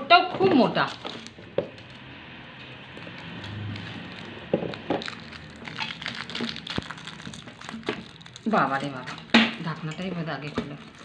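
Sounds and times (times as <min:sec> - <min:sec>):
plastic wrap rustling: 0:00.4 - 0:11.0.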